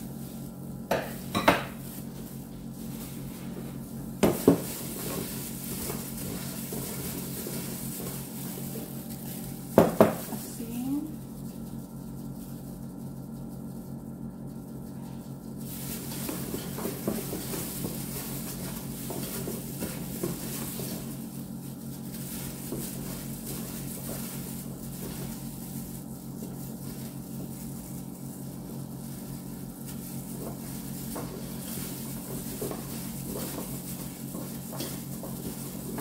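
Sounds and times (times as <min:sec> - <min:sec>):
plastic gloves crinkling: 0:00.0 - 0:36.0
steady low hum: 0:00.0 - 0:36.0
wet squelching of mixing food: 0:00.0 - 0:36.0.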